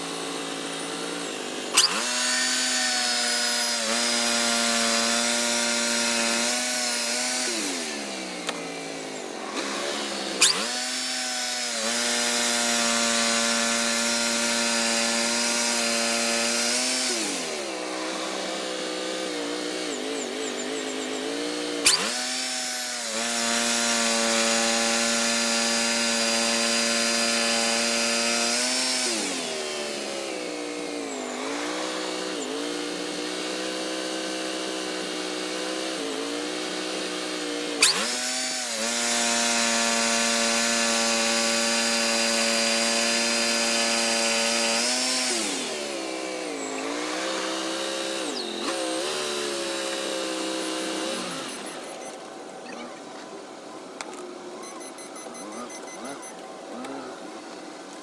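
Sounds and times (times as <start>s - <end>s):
band sawmill engine running: 0.0s - 52.4s.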